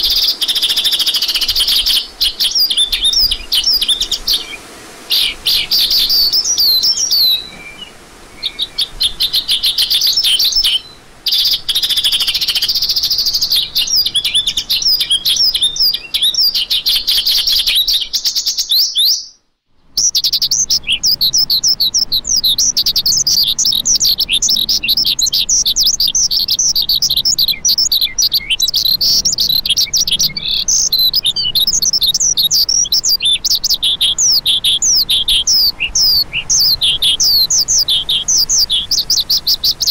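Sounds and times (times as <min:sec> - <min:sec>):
lark song chirps and trills: 0:00.0 - 0:39.9.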